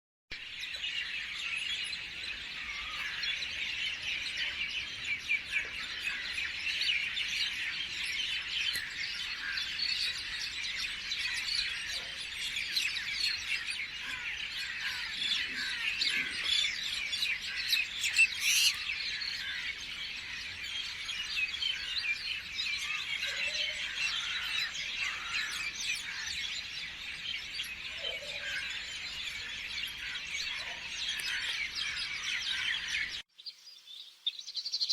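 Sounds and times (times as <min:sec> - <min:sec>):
small birds chirping: 0:00.3 - 0:34.9
lower bird calls: 0:00.4 - 0:34.9.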